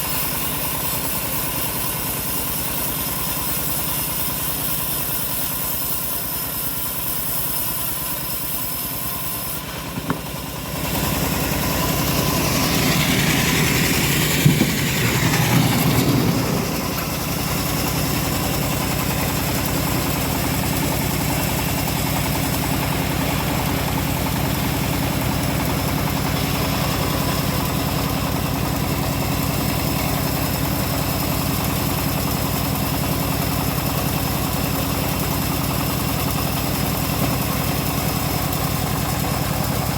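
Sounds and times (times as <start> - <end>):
bandsaw mill running: 0.0 - 39.9.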